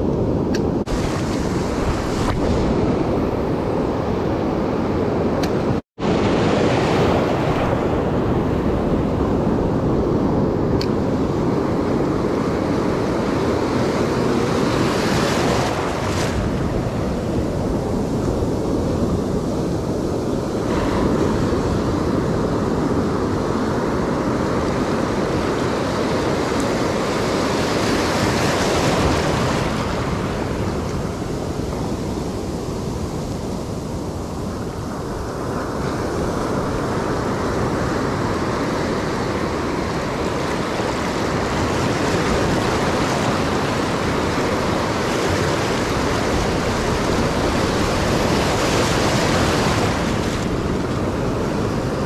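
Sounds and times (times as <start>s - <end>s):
ocean surf breaking: 0.0s - 52.0s
wind on microphone: 0.0s - 52.0s.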